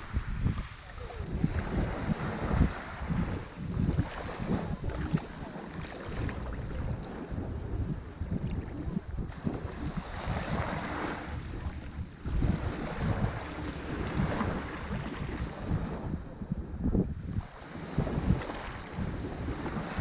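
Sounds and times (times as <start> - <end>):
ocean surf breaking: 0.0 - 16.2
wind buffeting microphone: 0.0 - 20.0.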